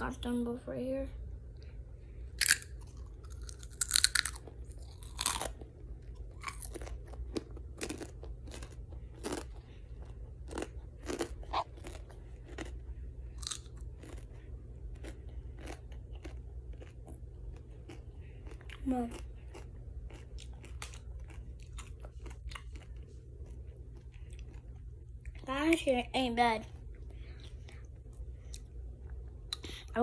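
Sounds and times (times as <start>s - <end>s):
crunching and chewing chips: 2.2s - 25.8s, 26.6s - 30.0s.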